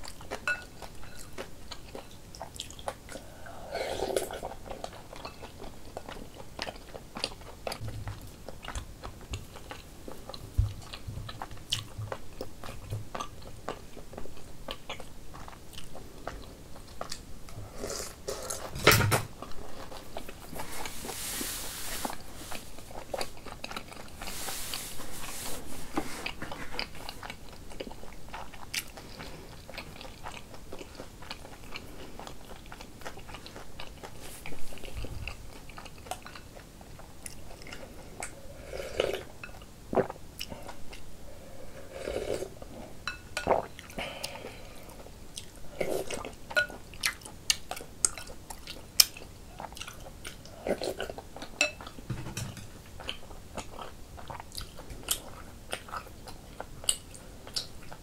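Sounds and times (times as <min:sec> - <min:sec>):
chewing and mouth sounds: 0:00.0 - 0:17.3, 0:22.5 - 0:24.3, 0:26.2 - 0:41.1, 0:43.4 - 0:52.0, 0:52.8 - 0:58.0.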